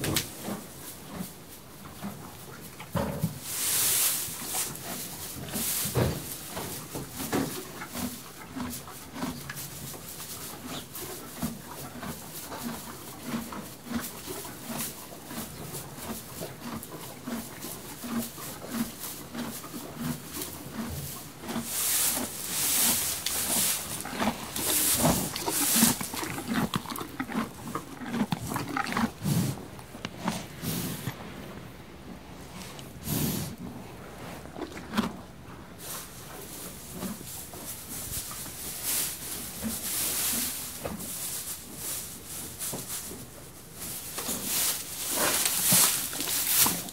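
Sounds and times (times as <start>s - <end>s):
horse chewing hay: 0.0s - 46.9s.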